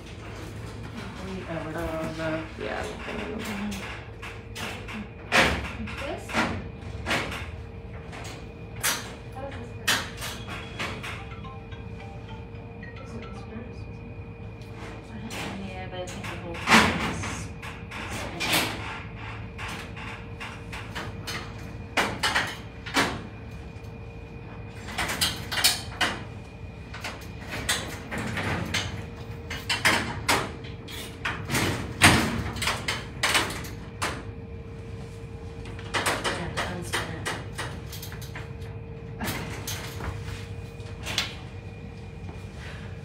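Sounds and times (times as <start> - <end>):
faint hum: 0.0 - 43.0.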